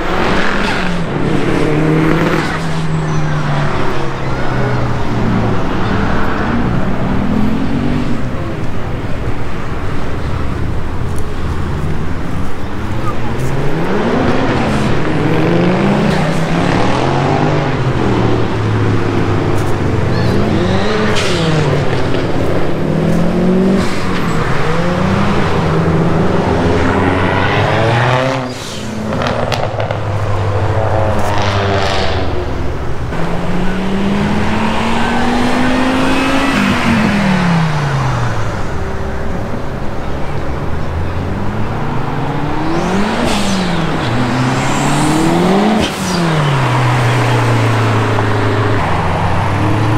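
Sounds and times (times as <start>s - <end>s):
car engines accelerating hard: 0.0s - 49.9s.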